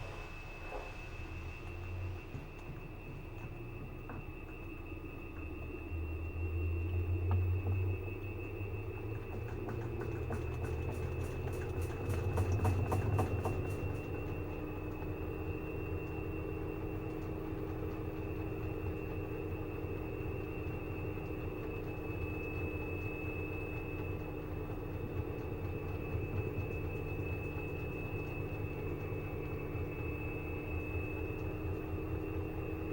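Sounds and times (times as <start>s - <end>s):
washing machine spinning: 0.0s - 32.9s.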